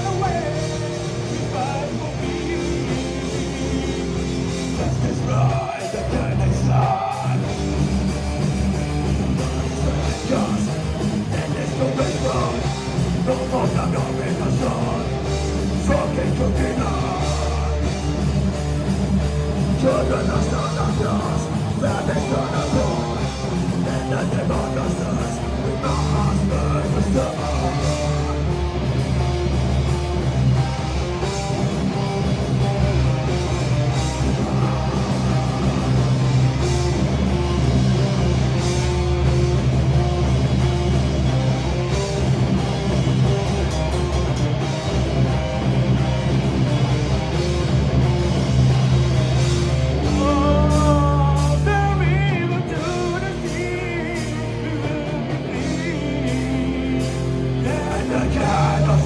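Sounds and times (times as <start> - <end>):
heavy metal band playing live: 0.0 - 59.0.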